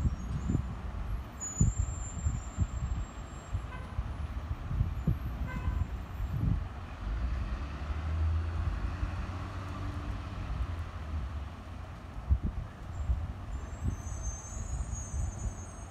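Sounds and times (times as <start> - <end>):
wind buffeting microphone: 0.0 - 7.5, 9.8 - 15.7.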